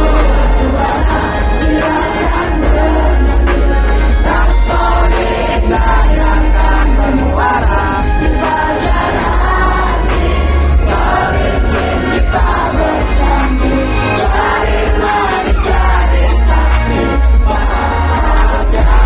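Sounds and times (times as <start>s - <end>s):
crowd noise: 0.0s - 19.0s
girl group singing: 0.0s - 19.0s
pop backing track with bass: 0.0s - 19.0s.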